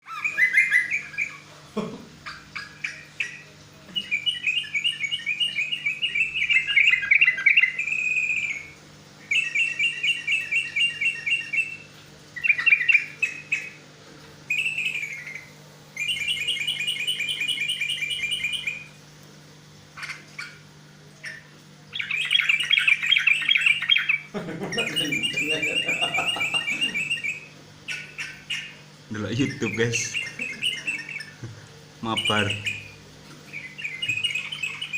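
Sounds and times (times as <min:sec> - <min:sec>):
songbird trilling: 0:00.0 - 0:01.5, 0:02.3 - 0:13.8, 0:14.5 - 0:18.9, 0:20.0 - 0:34.9
faint low hum: 0:00.0 - 0:34.9.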